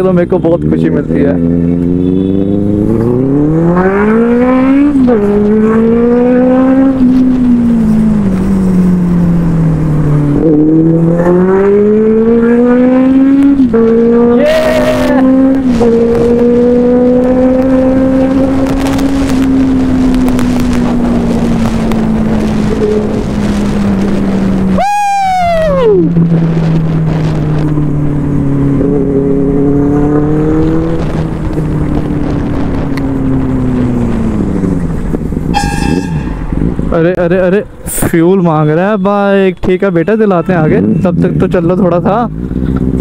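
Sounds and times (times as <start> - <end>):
motorcycle engine shifting gears: 0.5 - 24.8, 26.0 - 38.1, 40.7 - 43.0.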